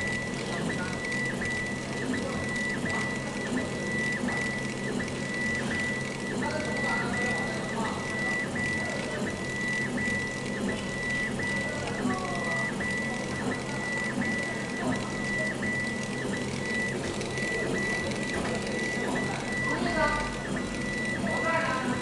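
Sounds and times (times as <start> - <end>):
laser engraver head whining: 0.0 - 22.0.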